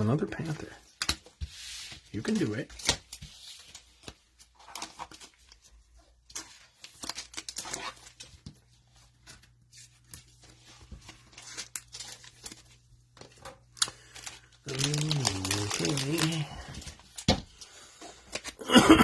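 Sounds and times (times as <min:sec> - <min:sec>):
cards being shuffled: 0:00.9 - 0:18.6
plastic wrapper crinkling and tearing: 0:02.1 - 0:08.4, 0:09.1 - 0:18.6.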